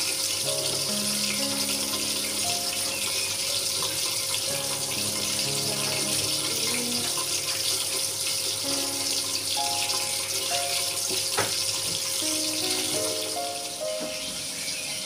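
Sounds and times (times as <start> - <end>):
slow background music: 0.0 - 11.3, 12.1 - 15.0
running water: 0.0 - 15.0.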